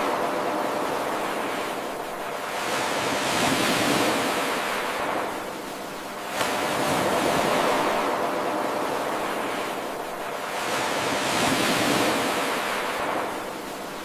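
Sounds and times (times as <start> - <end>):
ocean surf washing in: 0.0 - 14.0.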